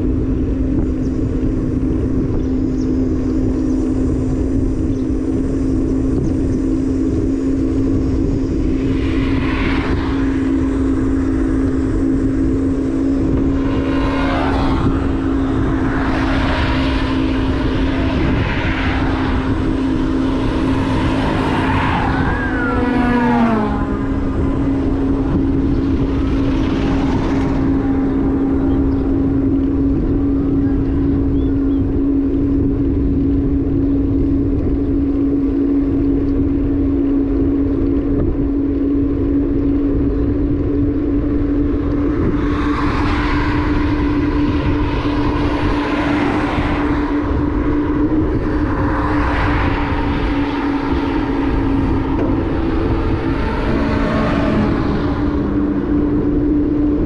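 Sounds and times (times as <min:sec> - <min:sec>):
motorbike engine hum: 0:00.0 - 0:57.0
vehicles passing: 0:00.0 - 0:57.0
wind rumble on microphone: 0:00.0 - 0:57.0.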